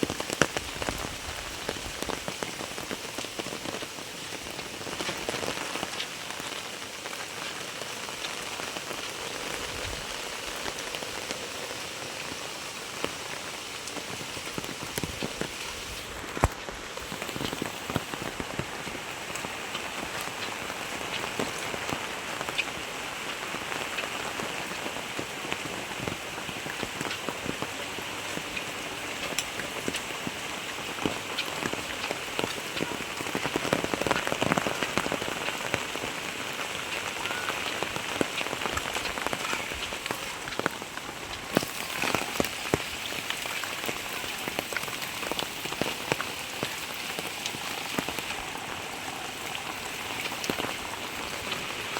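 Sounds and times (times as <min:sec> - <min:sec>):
heavy rain hissing: 0:00.0 - 0:51.9
raindrops ticking on surfaces: 0:00.0 - 0:51.9.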